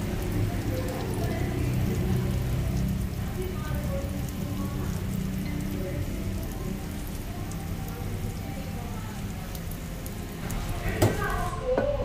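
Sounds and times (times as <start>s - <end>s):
food sizzling on hot plate: 0.0s - 11.9s.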